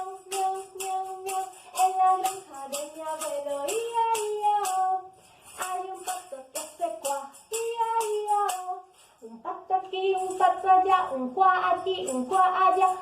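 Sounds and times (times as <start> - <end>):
tambourine beat: 0.0 - 9.2, 10.0 - 13.0
children's song singing: 0.0 - 13.0.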